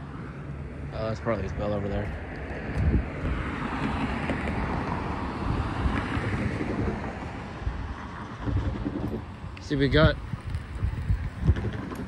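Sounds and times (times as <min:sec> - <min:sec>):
wind on microphone: 0:01.4 - 0:12.0.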